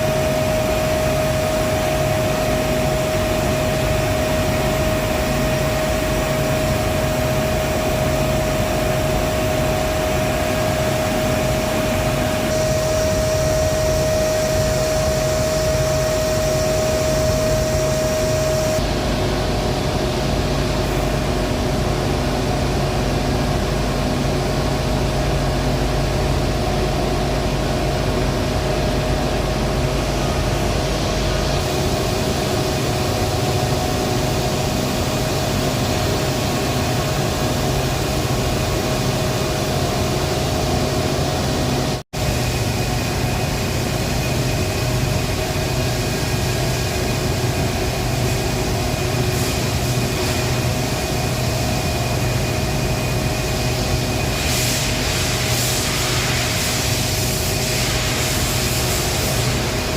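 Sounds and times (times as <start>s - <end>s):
industrial machinery hum and hiss: 0.0s - 59.9s.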